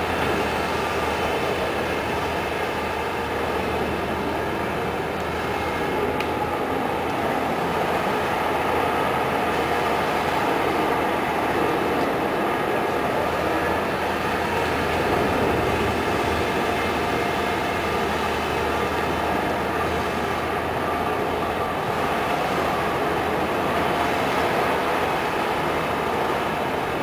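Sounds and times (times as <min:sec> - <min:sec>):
excavator diesel engine running: 0:00.0 - 0:27.0
excavator digging mud: 0:00.0 - 0:27.0.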